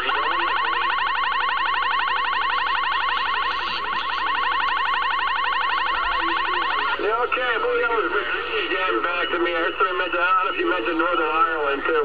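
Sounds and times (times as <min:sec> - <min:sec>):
rapid rising chirp tone on radio: 0:00.0 - 0:12.0.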